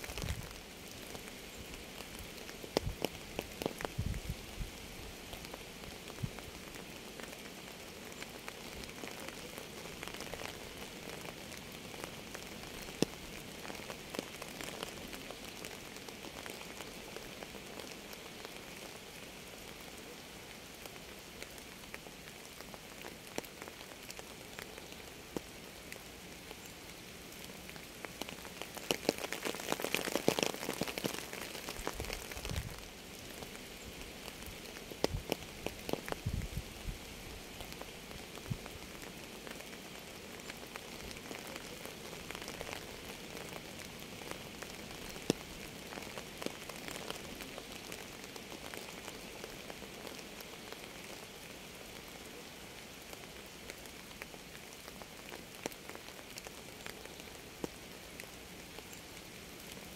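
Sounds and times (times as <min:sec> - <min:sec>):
rain hissing: 0:00.0 - 0:59.9
raindrops ticking: 0:00.0 - 0:59.9.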